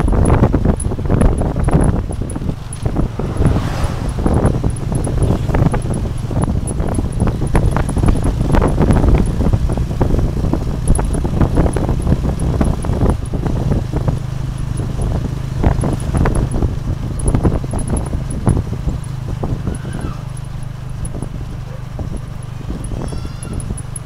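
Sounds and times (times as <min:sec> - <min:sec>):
carriage rattling and knocking: 0:00.0 - 0:03.2, 0:04.1 - 0:24.0
small motorcycle engine running: 0:00.0 - 0:24.0.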